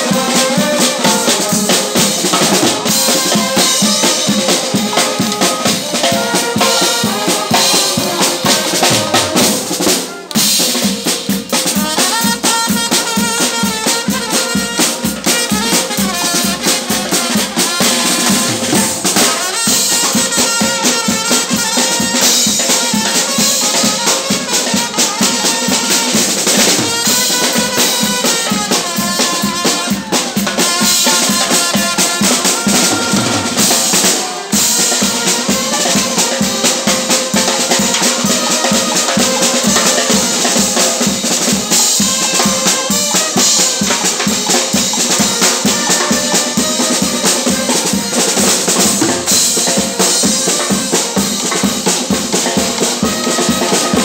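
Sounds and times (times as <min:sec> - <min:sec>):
music with fast drumbeat: 0:00.0 - 0:54.0.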